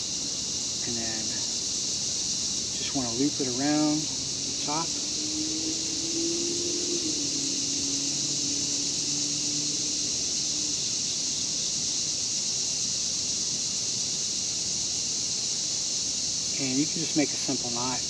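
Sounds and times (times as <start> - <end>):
cicadas singing: 0.0 - 18.0.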